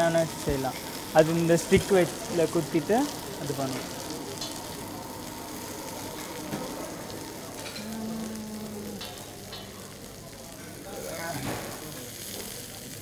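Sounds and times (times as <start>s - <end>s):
skewers sizzling in oil: 0.0s - 13.0s.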